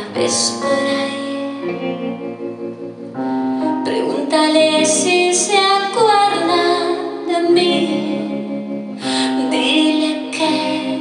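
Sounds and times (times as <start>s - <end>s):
woman singing: 0.0s - 1.7s, 3.8s - 11.0s
electric guitar: 0.0s - 11.0s
keyboard chords: 0.0s - 11.0s.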